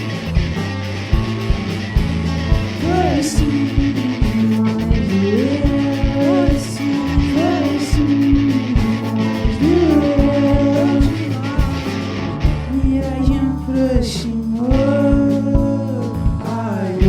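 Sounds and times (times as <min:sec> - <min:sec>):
psychedelic rock band playing: 0:00.0 - 0:17.0
person singing: 0:02.7 - 0:17.0.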